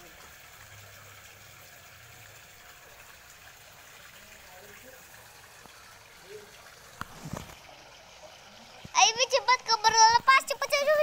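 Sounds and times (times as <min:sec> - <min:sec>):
water trickling into pond: 0:00.0 - 0:11.0.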